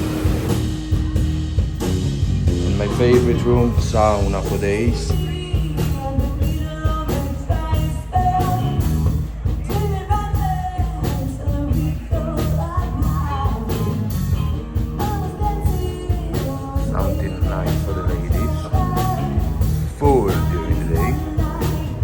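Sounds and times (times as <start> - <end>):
rock music with singing: 0.0 - 22.0.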